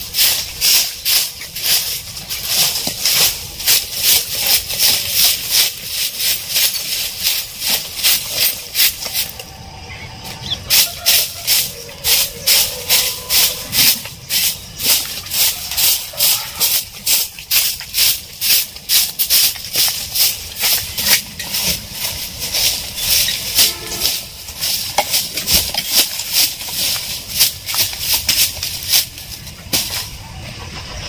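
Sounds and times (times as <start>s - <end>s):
broom sweeping dry litter: 0.0s - 9.6s, 10.2s - 30.4s.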